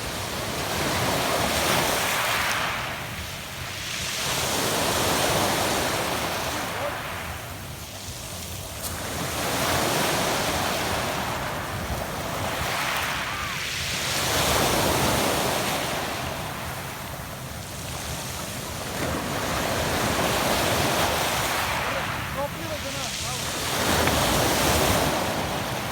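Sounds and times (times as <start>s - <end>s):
waves breaking on pebble beach: 0.0s - 25.9s.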